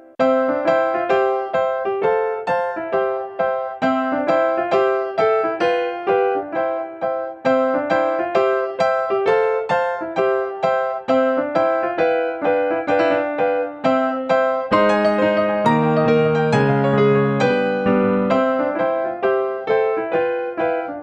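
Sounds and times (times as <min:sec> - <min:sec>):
keyboard melody: 0:00.0 - 0:21.0.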